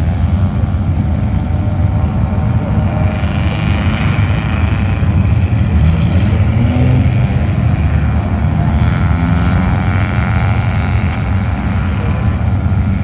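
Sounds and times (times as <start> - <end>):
race car engines idling: 0.0 - 13.0.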